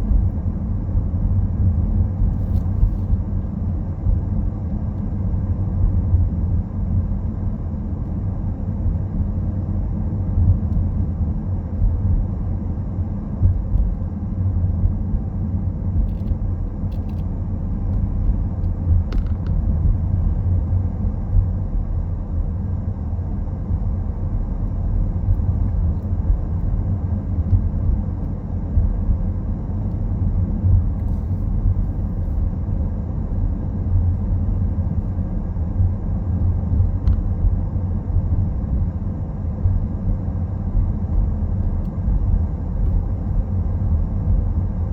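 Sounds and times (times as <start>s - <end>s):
car driving rumble: 0.0s - 44.9s.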